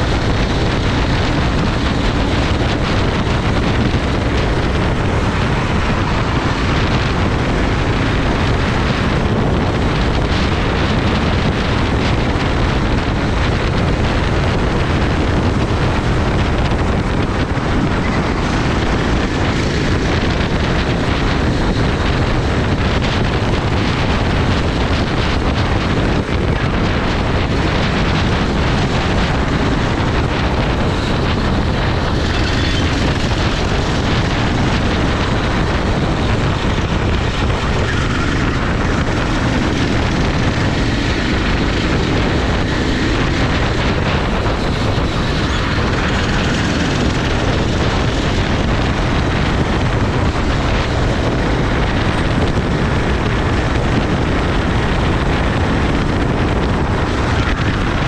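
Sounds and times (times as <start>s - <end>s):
kart engine running: 0.0s - 58.0s
wind noise on microphone: 0.0s - 58.0s.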